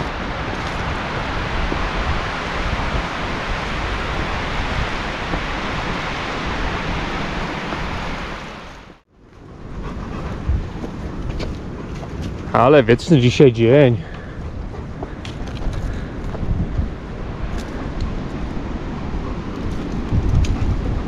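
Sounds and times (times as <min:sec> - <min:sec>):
strong wind in trees: 0:00.0 - 0:21.0.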